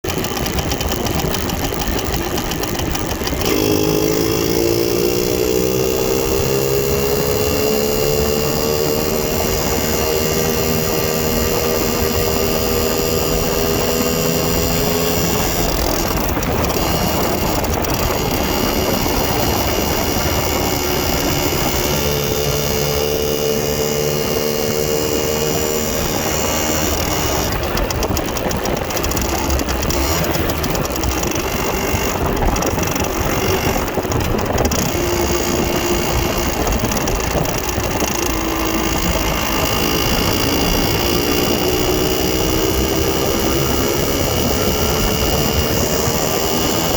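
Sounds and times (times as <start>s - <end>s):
constant rushing noise: 0.0s - 46.9s
motorcycle engine running: 0.0s - 46.9s.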